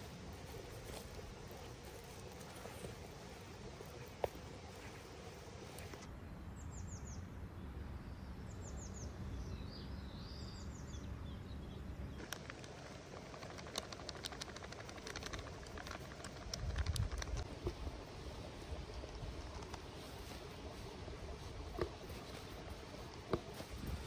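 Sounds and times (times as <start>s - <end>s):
birds chirping: 0.0s - 24.0s
low outdoor rumble: 0.0s - 24.0s.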